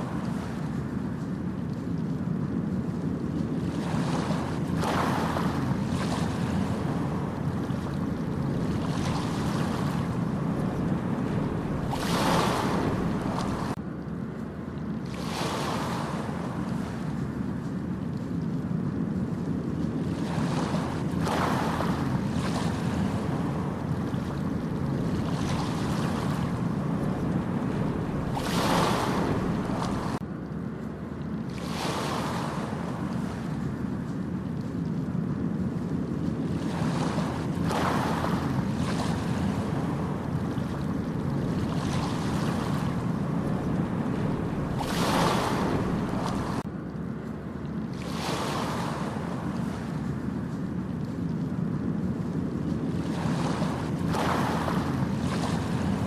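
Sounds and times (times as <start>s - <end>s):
ocean waves breaking on beach: 0.0s - 13.8s, 14.9s - 30.3s, 31.4s - 46.8s, 47.8s - 56.0s
wind buffeting microphone: 0.0s - 56.0s.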